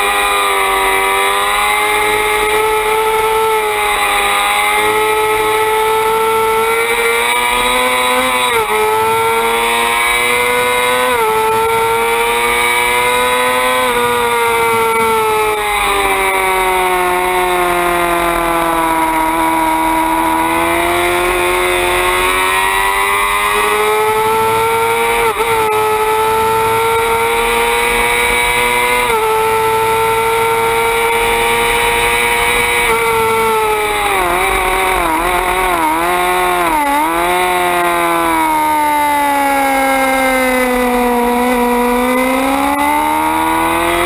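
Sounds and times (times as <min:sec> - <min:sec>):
motorcycle engine at high revs: 0:00.0 - 0:44.0.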